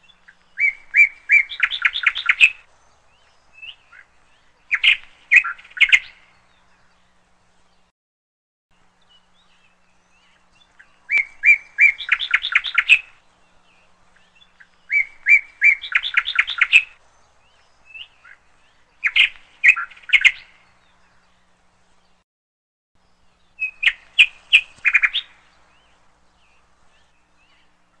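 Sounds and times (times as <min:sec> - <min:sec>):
songbird singing: 0:00.0 - 0:07.9, 0:08.7 - 0:22.2, 0:23.0 - 0:28.0.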